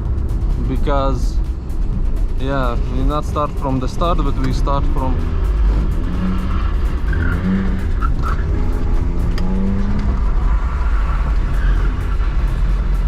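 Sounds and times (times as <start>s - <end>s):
car engine under hard driving: 0.0s - 13.0s
road and tyre noise: 0.0s - 13.0s.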